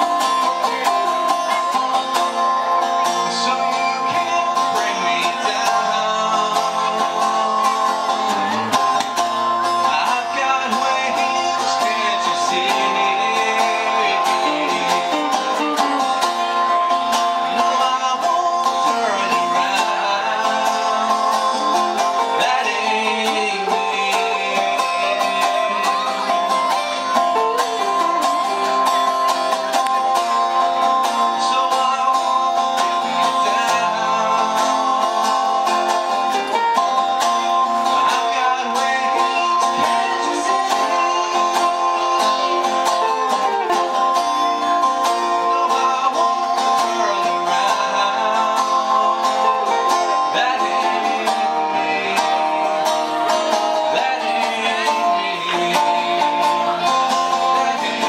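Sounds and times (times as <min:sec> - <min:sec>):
guitar picking rapid notes: 0:00.0 - 0:58.0
live band playing: 0:00.0 - 0:58.0.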